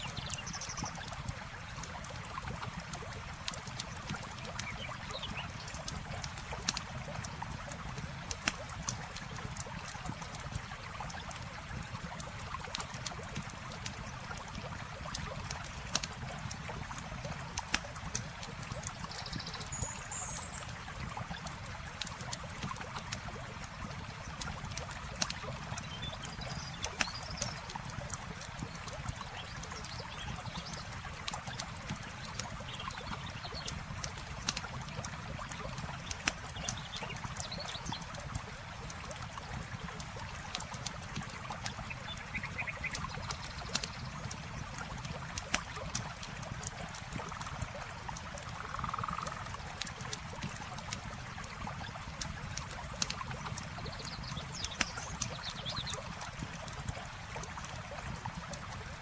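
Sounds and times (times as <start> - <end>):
campfire crackling and popping: 0.0 - 59.0
running water trickling: 0.0 - 59.0.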